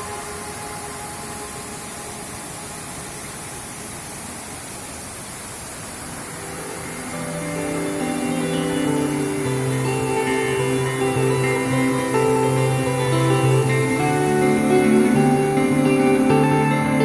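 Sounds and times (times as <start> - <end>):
music: 0.0 - 3.6, 6.3 - 17.0
waterfall rushing: 0.0 - 17.0.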